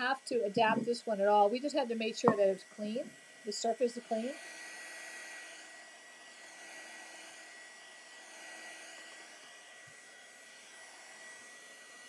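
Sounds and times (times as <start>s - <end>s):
heat gun blowing with high whine: 0.0s - 12.0s.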